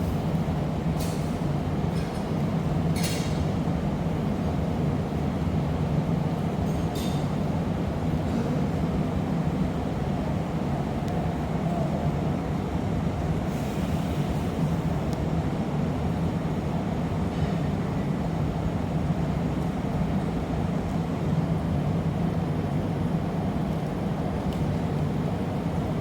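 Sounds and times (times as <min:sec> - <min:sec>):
gas furnace roaring: 0:00.0 - 0:26.0.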